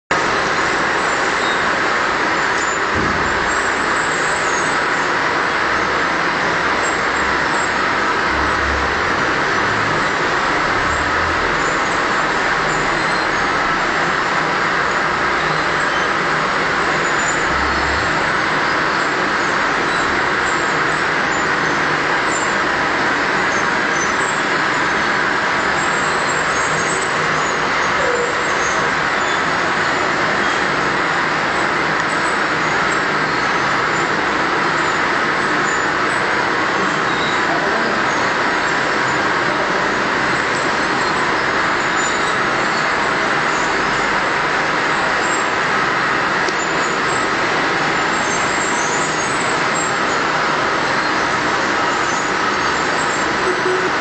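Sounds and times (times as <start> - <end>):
loud rushing noise: 0.1 - 54.0.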